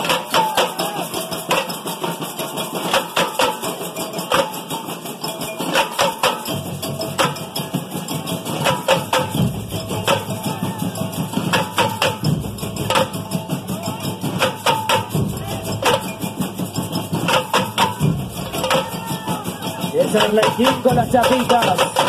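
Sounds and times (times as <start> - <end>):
hand percussion: 0.0 - 22.0
small drums sharp fast strokes: 0.0 - 22.0.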